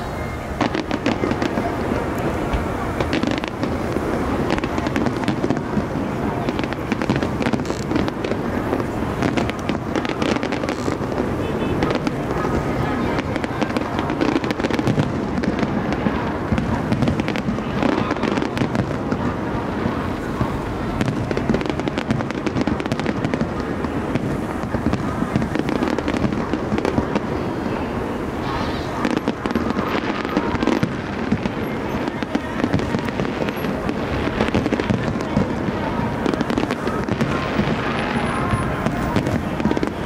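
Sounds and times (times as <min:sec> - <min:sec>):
crowd voices: 0:00.0 - 0:40.0
fireworks bursting and crackling: 0:00.0 - 0:40.0.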